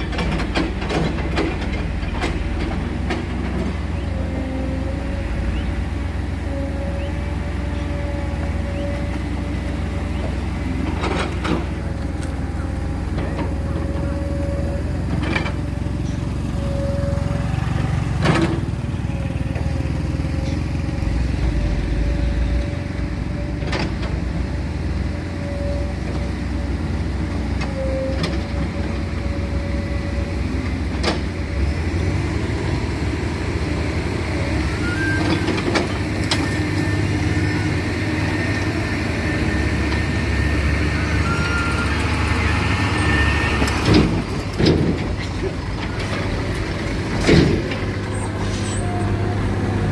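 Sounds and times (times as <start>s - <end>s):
heavy vehicle engines rumbling: 0.0s - 49.9s.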